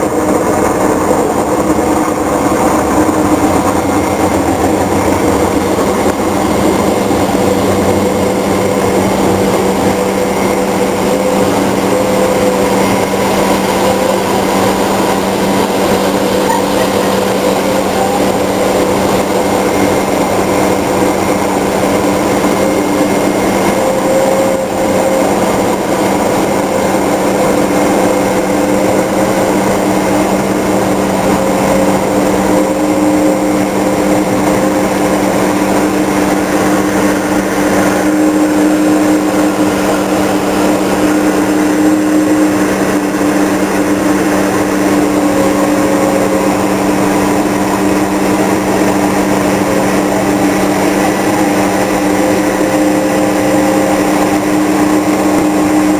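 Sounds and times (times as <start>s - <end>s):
constant hum of held tones: 0.0s - 55.9s
jet engine noise: 0.0s - 55.9s
rushing air: 0.0s - 55.9s.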